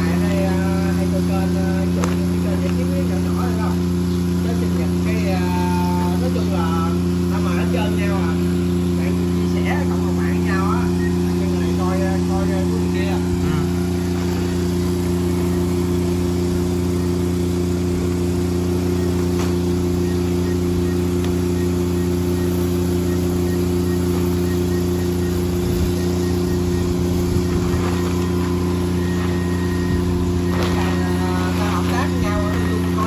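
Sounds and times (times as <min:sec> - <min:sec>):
small engine droning: 0:00.0 - 0:33.0.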